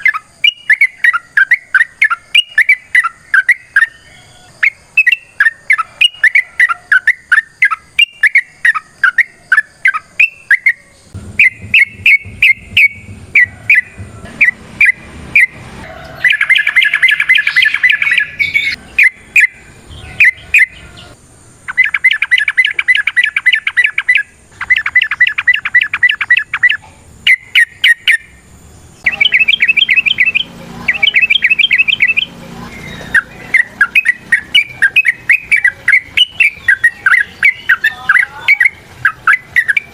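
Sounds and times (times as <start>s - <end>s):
bird chattering trills: 0.0s - 28.4s, 29.0s - 39.9s
bird single chirps: 0.0s - 28.4s, 29.0s - 39.9s.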